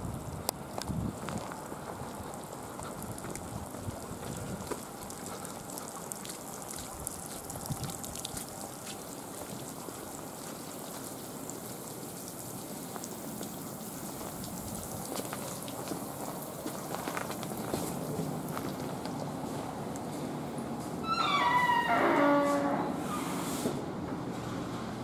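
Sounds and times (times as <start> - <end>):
steady rain falling: 0.0 - 22.8.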